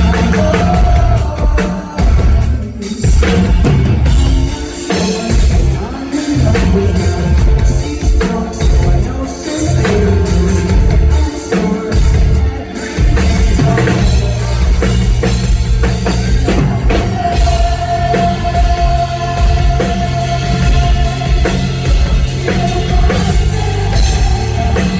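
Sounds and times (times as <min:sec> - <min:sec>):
person singing: 0:00.0 - 0:24.9
pounding drum kit: 0:00.0 - 0:24.9
rock band playing live: 0:00.0 - 0:24.9.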